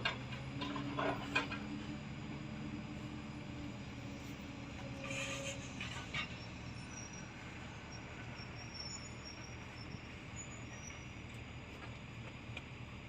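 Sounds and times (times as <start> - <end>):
diesel engine drone: 0.0 - 13.0.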